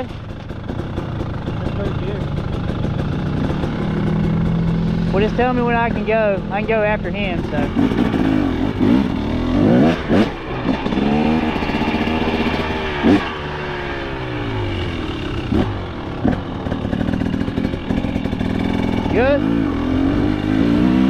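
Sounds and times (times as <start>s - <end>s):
dirt bike engine revving: 0.0s - 21.0s
motorbike idling: 0.0s - 21.0s.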